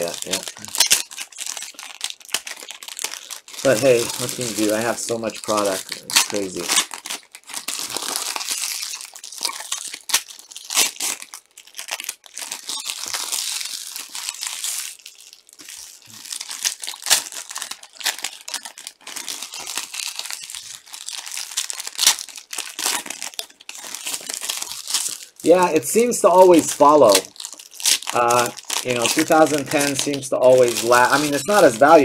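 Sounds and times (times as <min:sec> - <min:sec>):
foil wrappers crinkling and tearing: 0:00.0 - 0:32.0.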